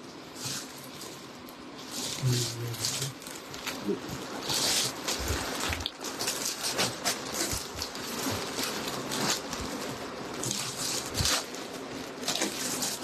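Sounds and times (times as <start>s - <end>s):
clothing rustling: 0.2s - 13.0s.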